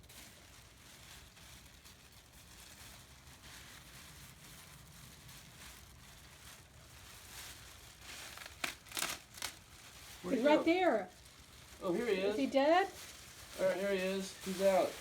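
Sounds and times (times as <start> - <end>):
rustling and handling noise: 0.0 - 15.0
sharp crinkles: 0.0 - 15.0.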